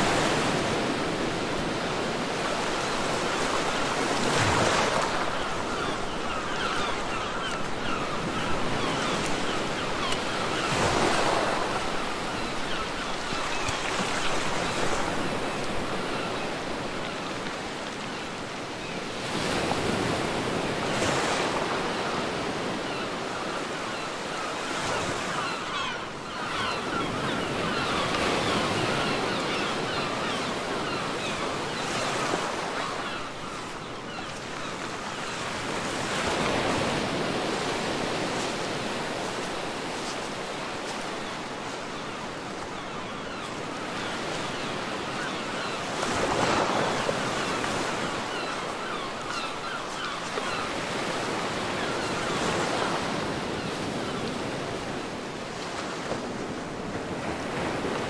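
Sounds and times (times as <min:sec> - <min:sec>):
ocean waves washing onto beach: 0:00.0 - 0:58.0.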